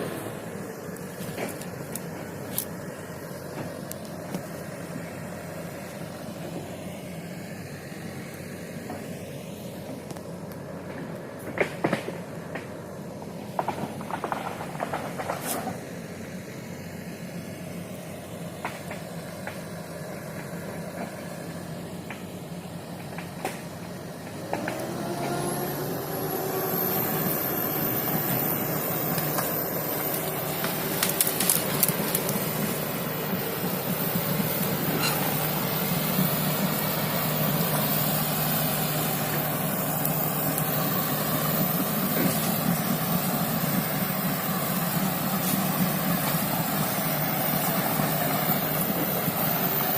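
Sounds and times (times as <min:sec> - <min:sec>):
excavator diesel engine revving: 0:00.0 - 0:49.9
high whine: 0:00.0 - 0:49.9.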